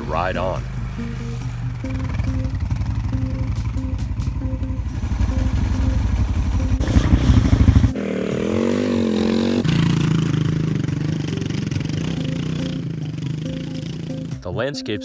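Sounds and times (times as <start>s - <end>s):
motorcycle engines running: 0.0s - 14.7s.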